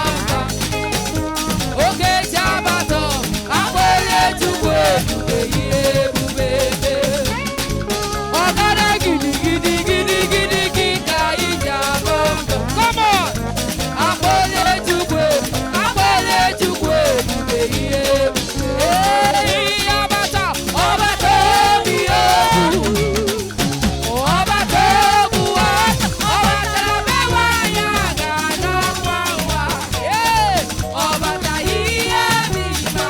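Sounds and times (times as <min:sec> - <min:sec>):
busy percussion beat: 0:00.0 - 0:33.0
gliding melodic line: 0:00.0 - 0:33.0
live church praise band: 0:00.0 - 0:33.0.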